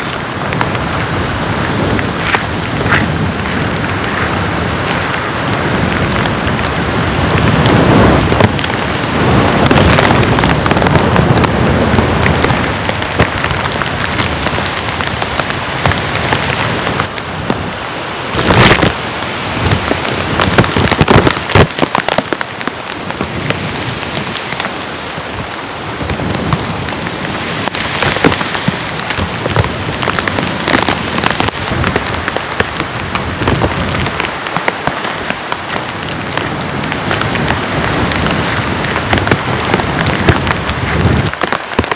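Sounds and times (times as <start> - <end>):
heavy rain falling on a surface: 0.0 - 41.9.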